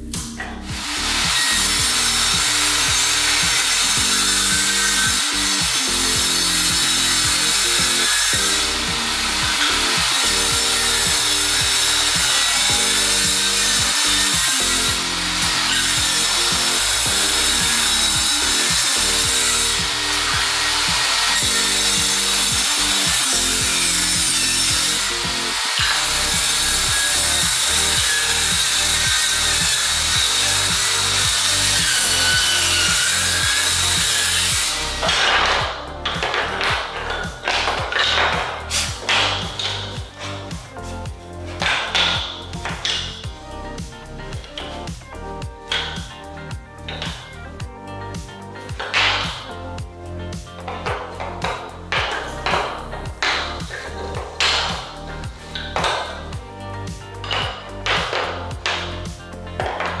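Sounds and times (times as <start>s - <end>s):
background music: 0.0s - 60.0s
table saw cutting wood: 0.0s - 60.0s.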